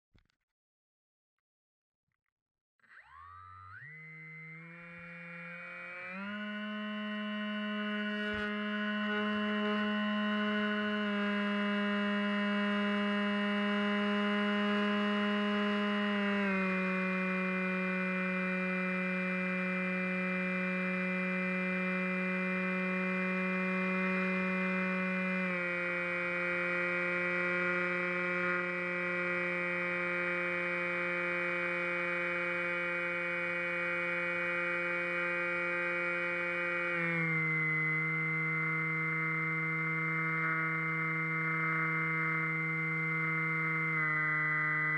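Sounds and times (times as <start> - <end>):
ambient synthesizer chords: 3.1 - 44.9.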